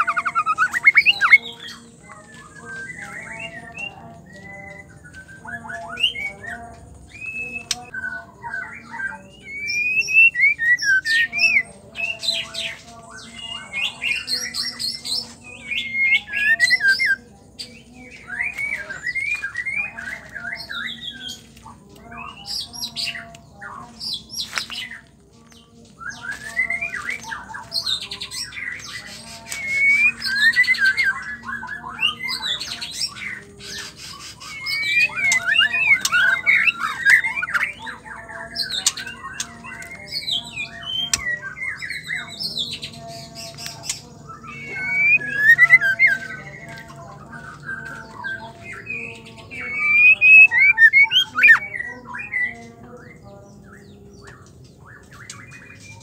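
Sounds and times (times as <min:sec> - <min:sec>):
bird singing whistled notes: 0:00.0 - 0:21.4, 0:24.0 - 0:46.8, 0:47.4 - 0:52.5.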